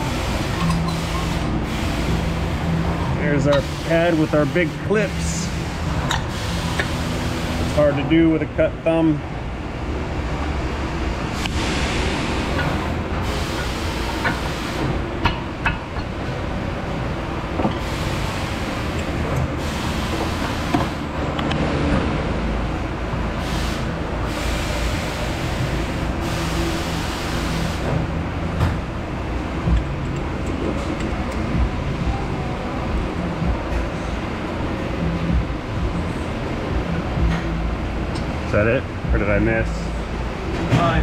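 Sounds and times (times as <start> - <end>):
loud steady machine noise: 0.0 - 41.0.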